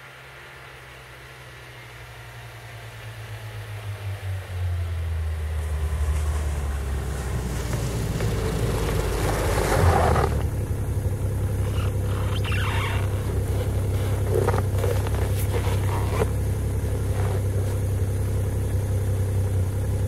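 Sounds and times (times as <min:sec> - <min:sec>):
snowmobile engine running: 0:03.7 - 0:20.0.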